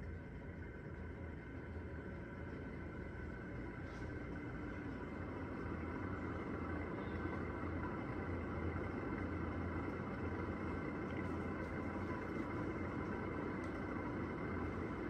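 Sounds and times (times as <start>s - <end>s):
ceiling fan motor hum: 0.0s - 15.0s
whir of fan blades: 0.0s - 15.0s.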